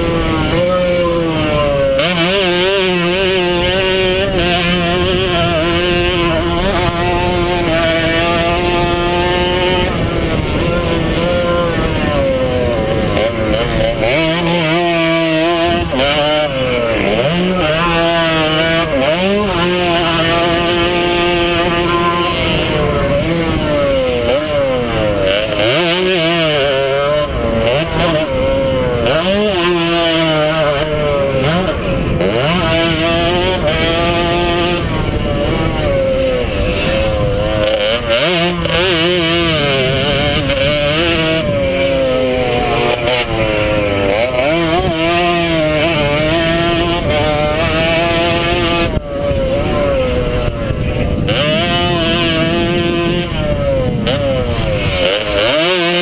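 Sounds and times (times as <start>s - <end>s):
two-stroke dirt bike revving: 0.0s - 56.0s
wind noise on microphone: 0.0s - 56.0s.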